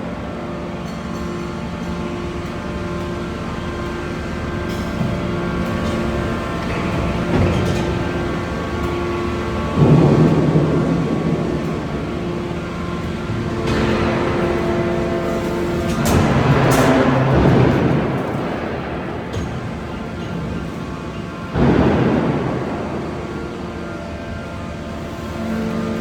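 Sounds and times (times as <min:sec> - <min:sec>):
heavy machinery humming: 0:00.0 - 0:26.0.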